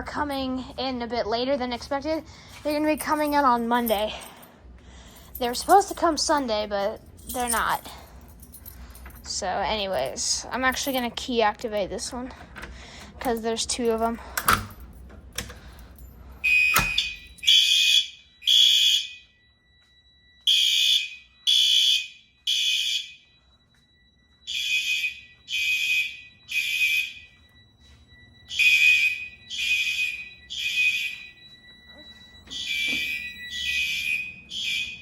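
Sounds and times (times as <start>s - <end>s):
fire alarm buzzing blasts: 0.0s - 35.0s.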